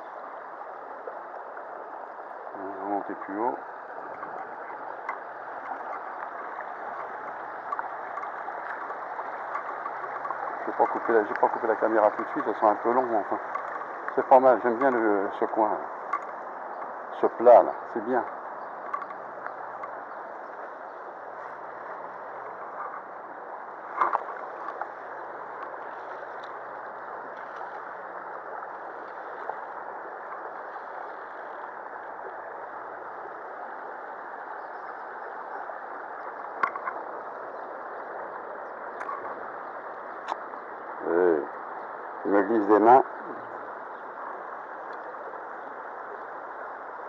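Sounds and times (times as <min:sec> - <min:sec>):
stream running over stones: 0:00.0 - 0:47.0.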